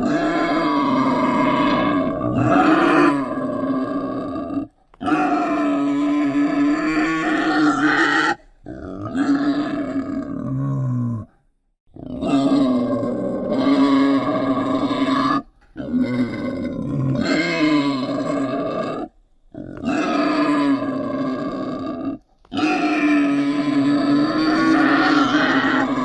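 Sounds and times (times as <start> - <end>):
wild boar grunting: 0.0 - 26.0.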